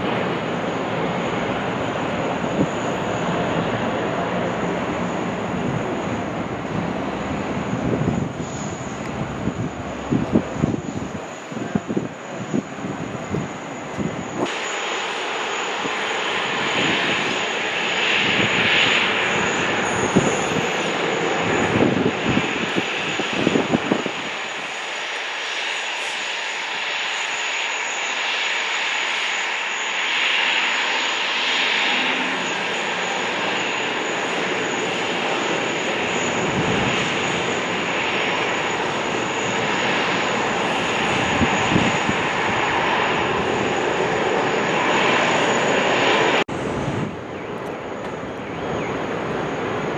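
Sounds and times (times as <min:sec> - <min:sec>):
wind buffeting microphone: 0:00.0 - 0:14.6, 0:15.7 - 0:24.8, 0:30.6 - 0:49.9
jet engines with high whine: 0:00.0 - 0:49.9.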